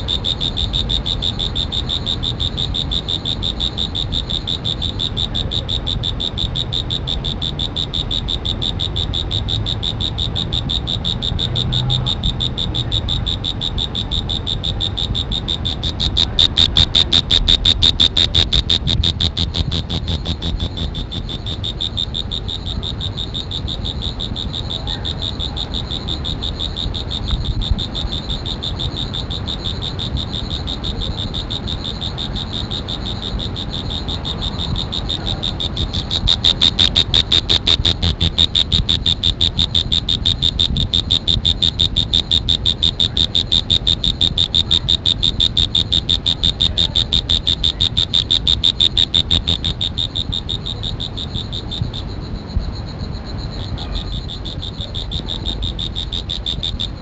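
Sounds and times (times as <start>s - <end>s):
high-pitched pulsing insect trill: 0.0s - 57.0s.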